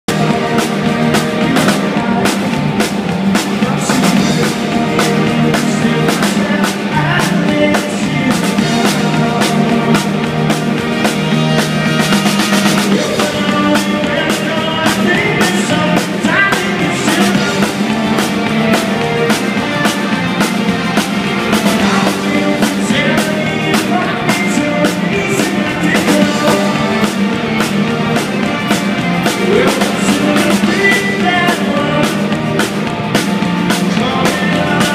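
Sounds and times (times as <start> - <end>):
drum kit steady beat: 0.0 - 34.9
live rock band playing: 0.1 - 34.9.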